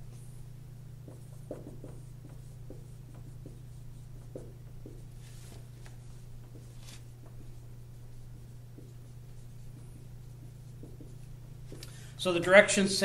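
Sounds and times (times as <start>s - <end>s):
marker writing on whiteboard: 0.0s - 11.8s.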